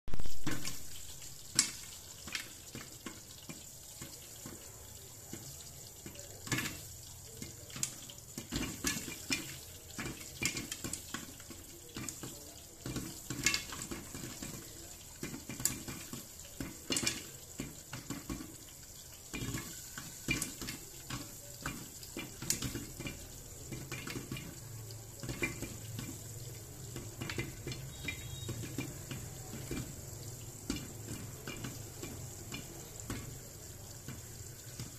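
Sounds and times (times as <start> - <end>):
popcorn popping: 0.1 - 34.9.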